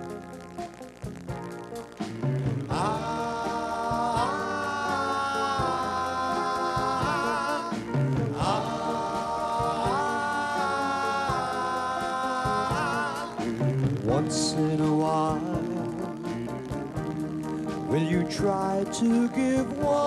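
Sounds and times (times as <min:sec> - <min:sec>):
band with drum beats: 0:00.0 - 0:20.0
vocal group singing harmony: 0:02.2 - 0:20.0.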